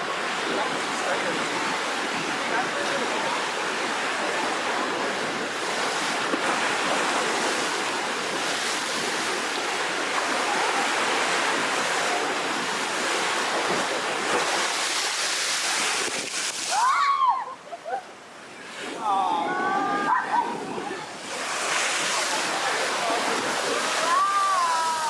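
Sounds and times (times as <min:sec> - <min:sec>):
sea surf breaking: 0:00.0 - 0:17.4, 0:18.5 - 0:25.0.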